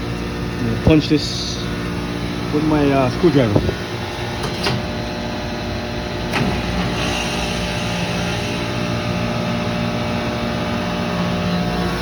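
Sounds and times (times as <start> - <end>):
compressor humming: 0.0 - 12.0
contactor clacking: 0.0 - 12.0
plant machinery drone: 0.0 - 12.0.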